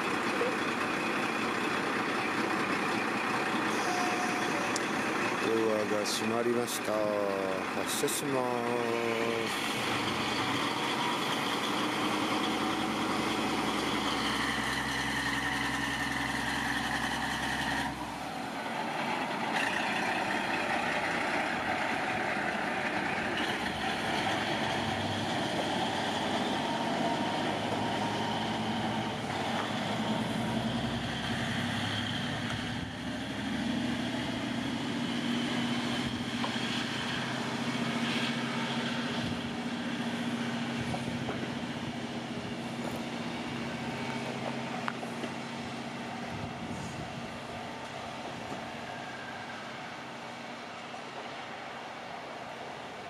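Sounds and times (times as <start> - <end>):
diesel railcar engine pulling away: 0.0 - 53.0.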